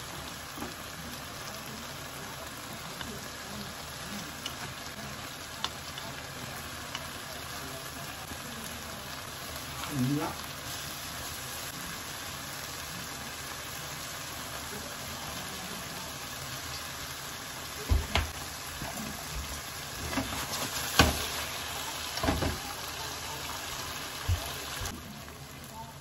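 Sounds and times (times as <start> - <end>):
food sizzling in frying pan: 0.0 - 26.0.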